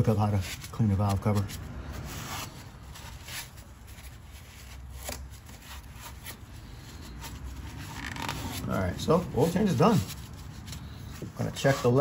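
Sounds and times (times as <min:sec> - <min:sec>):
faint rustling and handling: 0:00.0 - 0:12.0
soft brushing sounds: 0:00.0 - 0:12.0.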